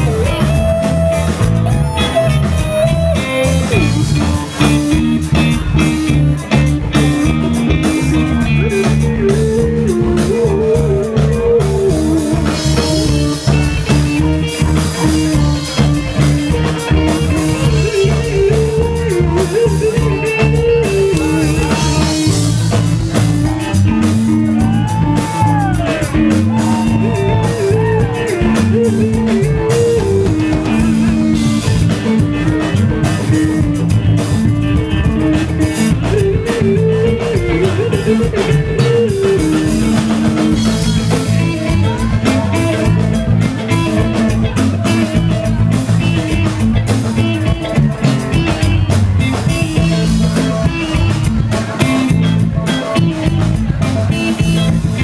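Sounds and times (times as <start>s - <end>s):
deep bass line: 0.0s - 55.0s
electronica jam band playing: 0.0s - 55.0s
steady drum beat: 0.0s - 55.0s.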